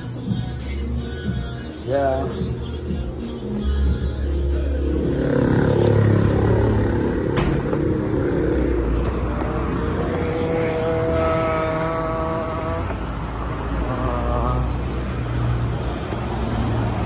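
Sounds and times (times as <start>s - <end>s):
street traffic: 0.0s - 17.0s
vehicle engine running: 1.9s - 17.0s.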